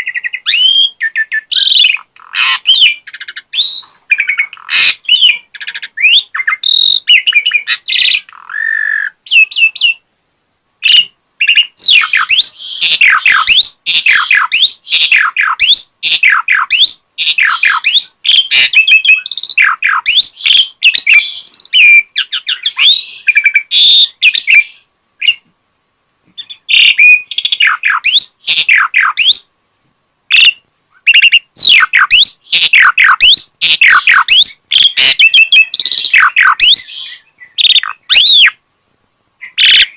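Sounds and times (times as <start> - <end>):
starling singing: 0.0 - 10.0, 10.8 - 25.5, 26.4 - 29.5, 30.3 - 38.6, 39.4 - 39.9.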